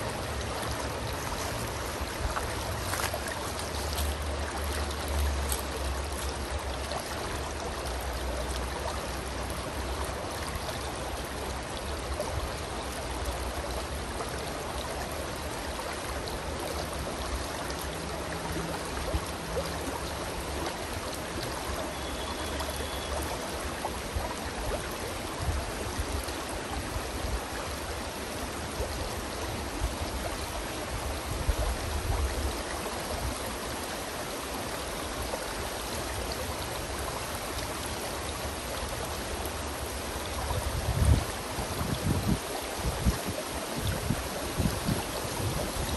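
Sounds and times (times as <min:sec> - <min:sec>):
stream flowing over rocks: 0:00.0 - 0:45.9.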